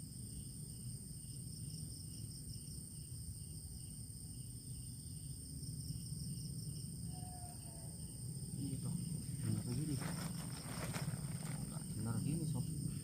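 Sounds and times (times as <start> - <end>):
crickets trilling: 0.0 - 13.0
pulsing insect chirp: 0.0 - 13.0.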